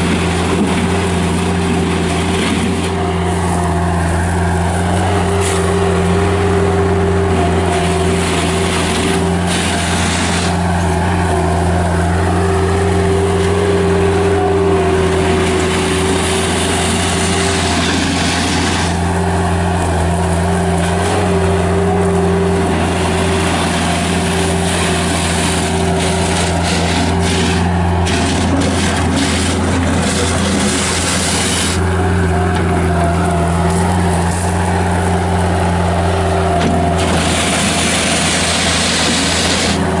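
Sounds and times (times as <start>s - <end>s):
diesel loader engine running: 0.0s - 40.0s.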